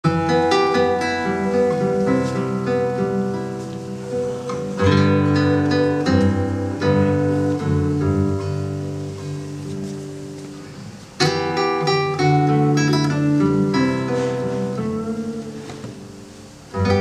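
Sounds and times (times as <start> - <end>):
acoustic guitar picking: 0.0 - 17.0
guitar chords strummed: 0.0 - 17.0.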